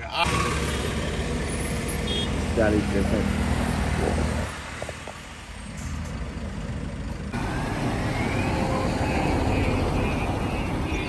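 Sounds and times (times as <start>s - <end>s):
heavy truck engine rumble: 0.0s - 11.0s.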